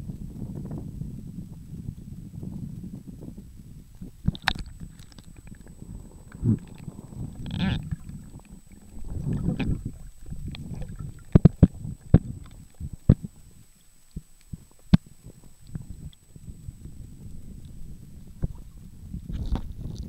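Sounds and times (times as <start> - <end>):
muffled underwater rumble: 0.0 - 20.0
water sloshing and gurgling: 3.0 - 20.0.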